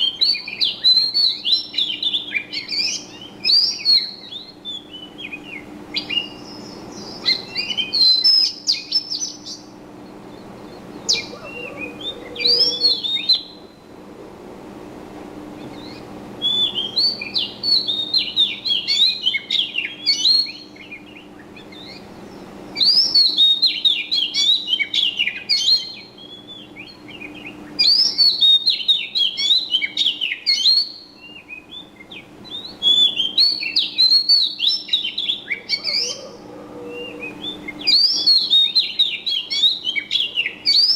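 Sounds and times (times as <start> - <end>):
faint low hum: 0.0 - 23.5, 31.2 - 40.9
small birds twittering: 0.0 - 40.9.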